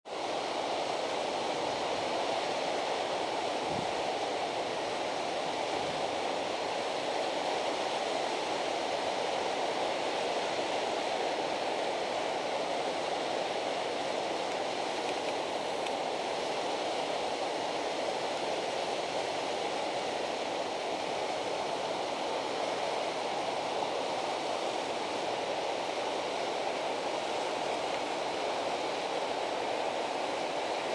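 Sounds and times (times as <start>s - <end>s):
river water rushing: 0.1s - 30.9s.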